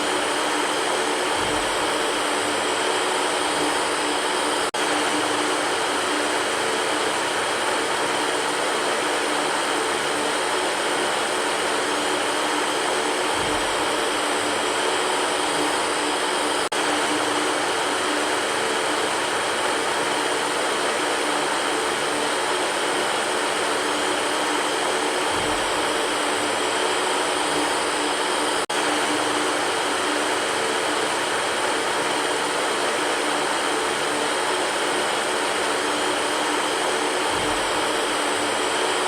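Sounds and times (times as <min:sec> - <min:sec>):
electric fan whooshing: 0:00.0 - 0:39.0.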